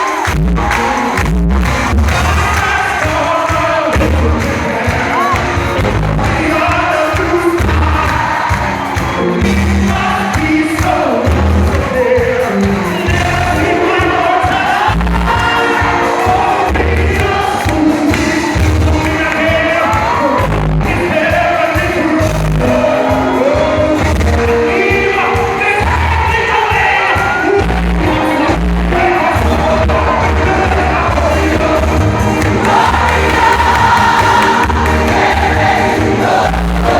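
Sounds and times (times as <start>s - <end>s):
crowd singing along: 0.0s - 36.9s
singers over a band: 0.0s - 36.9s.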